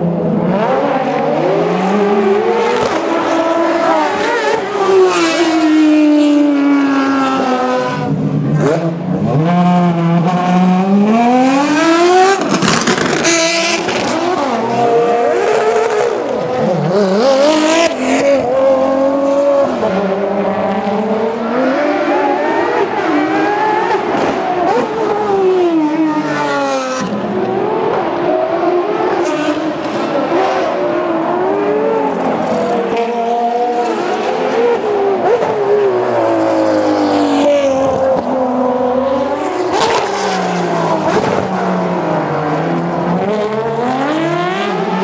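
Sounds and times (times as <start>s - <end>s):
race car engines accelerating: 0.0s - 45.0s.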